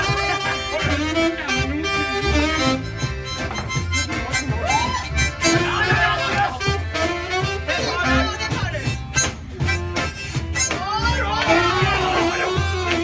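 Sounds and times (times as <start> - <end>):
band playing instrumental: 0.0 - 13.0
steady bass beat: 0.0 - 13.0.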